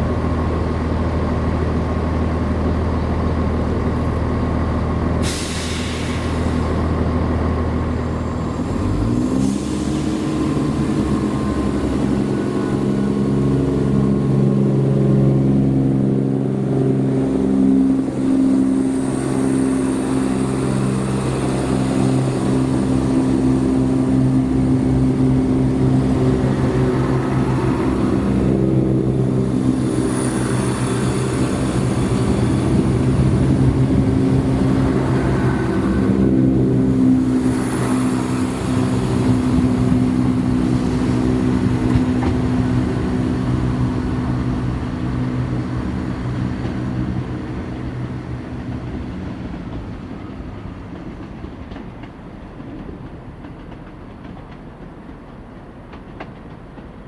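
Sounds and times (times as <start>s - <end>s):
diesel train engine hum: 0.0s - 57.0s
wheel and rail noise: 0.0s - 57.0s.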